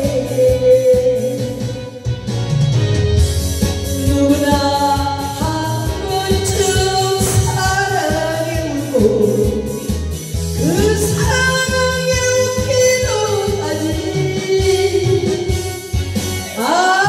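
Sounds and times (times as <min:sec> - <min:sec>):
woman singing karaoke: 0:00.0 - 0:02.2, 0:03.6 - 0:17.0
backing track with steady beat: 0:00.0 - 0:17.0.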